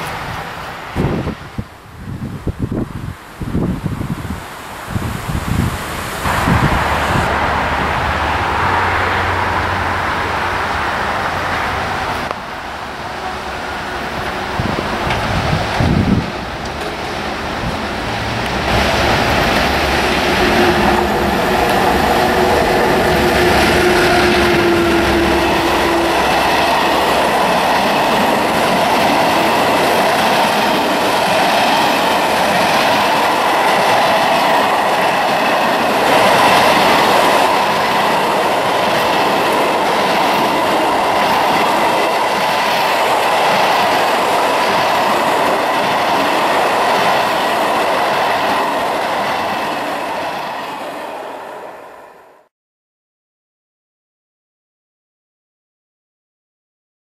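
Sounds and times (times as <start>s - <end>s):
freight train rolling past: 0.0s - 52.5s.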